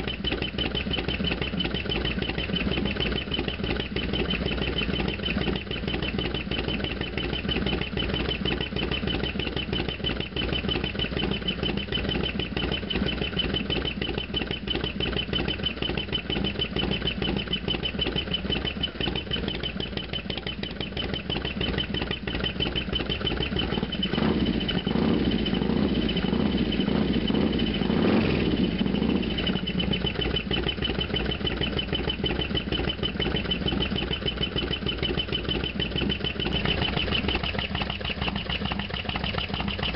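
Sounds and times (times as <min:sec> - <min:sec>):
fast ticking: 0:00.0 - 0:39.9
motorcycle engine idling: 0:00.0 - 0:39.9.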